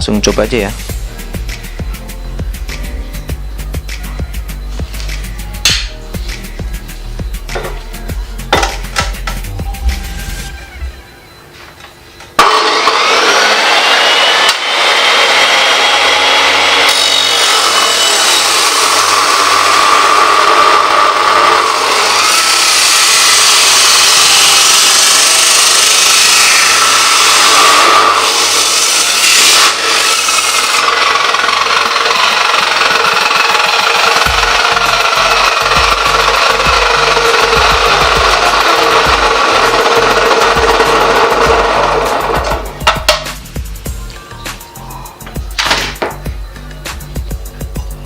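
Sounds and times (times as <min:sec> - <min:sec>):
cut-off saw whine: 0:00.0 - 0:48.0
saw disc grinding through steel: 0:00.3 - 0:11.4, 0:12.4 - 0:43.5.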